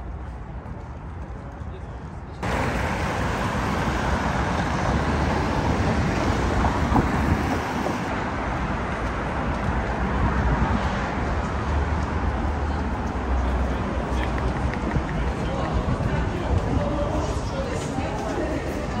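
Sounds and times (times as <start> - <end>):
city traffic rumble and hiss: 0.0 - 19.0.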